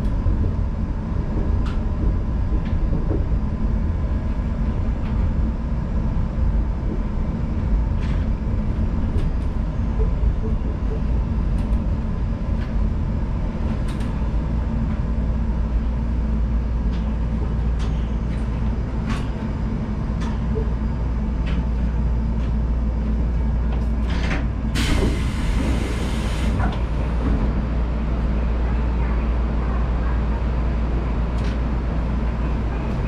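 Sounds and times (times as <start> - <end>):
low equipment hum: 0.0 - 33.0
monorail car stopping: 0.0 - 33.0.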